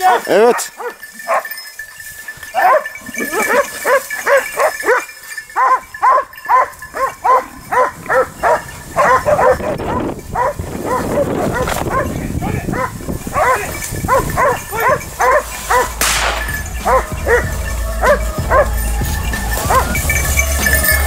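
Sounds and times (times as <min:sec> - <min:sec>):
dogs barking sharply: 0:00.0 - 0:01.5, 0:02.6 - 0:09.8, 0:10.4 - 0:18.7.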